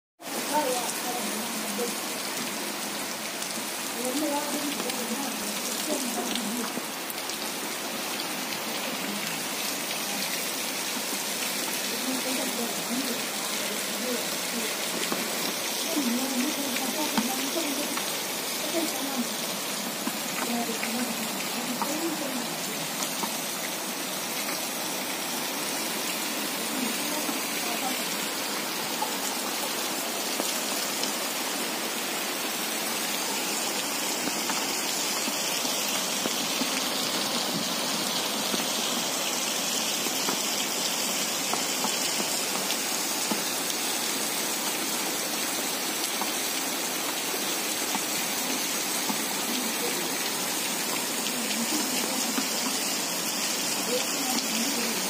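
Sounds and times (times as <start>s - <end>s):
heavy rain pouring: 0.2s - 55.0s.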